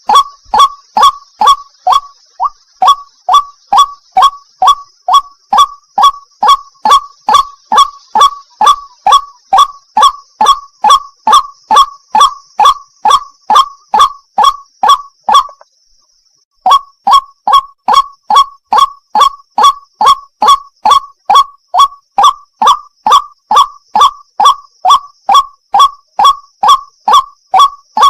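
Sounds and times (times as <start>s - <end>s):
waterhen calling wak notes: 0.0s - 15.9s, 16.6s - 28.0s.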